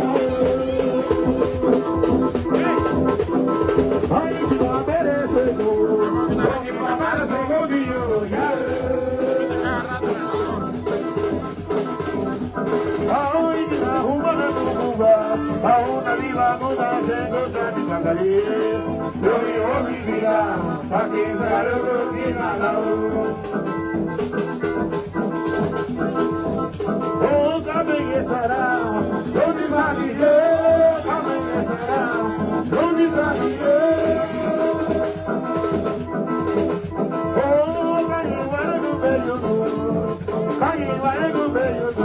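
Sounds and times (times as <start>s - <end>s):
person singing: 0.0s - 24.2s, 27.0s - 42.0s
latin party music with brass: 0.0s - 42.0s.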